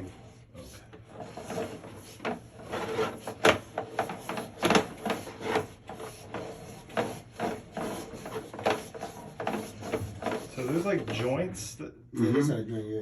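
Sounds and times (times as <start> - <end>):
cable scraping and rubbing: 0.0 - 11.5.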